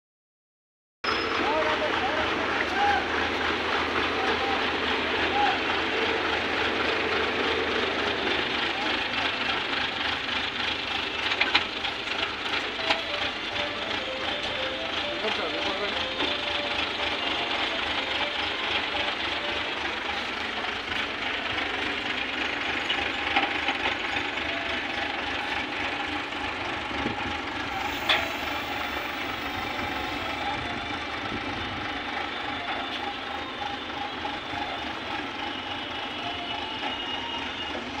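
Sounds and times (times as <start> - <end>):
crane diesel engine running: 1.1 - 38.0.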